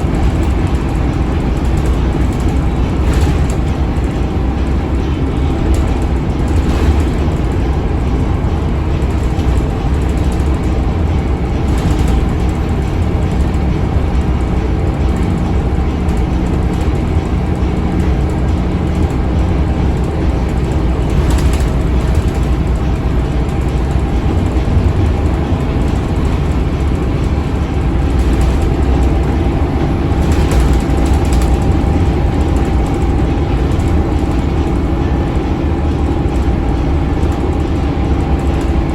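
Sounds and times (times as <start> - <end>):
brief rattles and bumps: 0.0 - 36.6
bus diesel engine droning: 0.0 - 38.9.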